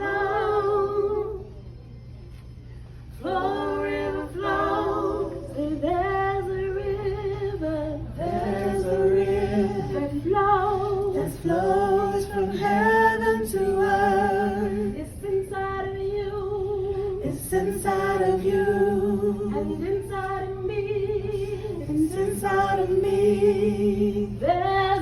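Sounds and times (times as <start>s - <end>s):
lower voice singing: 0.0s - 1.8s, 3.1s - 25.0s
steady low hum: 0.0s - 25.0s
woman singing unaccompanied: 3.2s - 25.0s.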